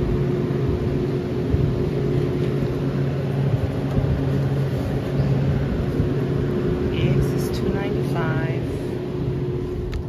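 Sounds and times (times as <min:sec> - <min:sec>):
display cooler humming: 0:00.0 - 0:10.0.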